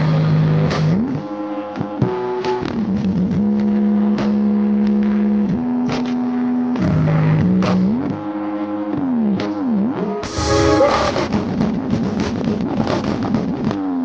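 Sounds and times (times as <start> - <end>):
buzzy synth lead electronic music: 0.0 - 13.5.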